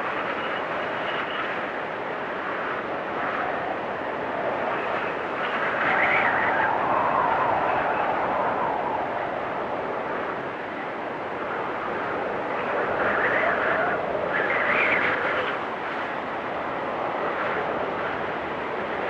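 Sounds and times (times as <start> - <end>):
storm wind whistling: 0.0 - 19.0.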